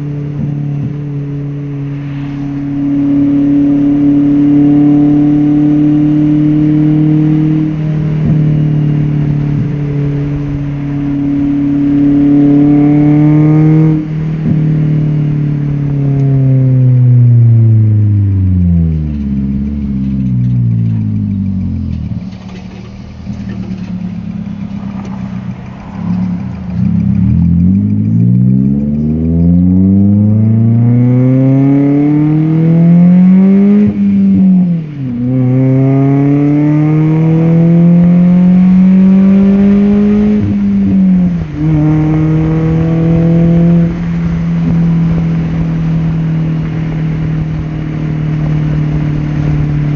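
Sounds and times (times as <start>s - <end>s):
car engine revving while driving: 0.0s - 49.9s.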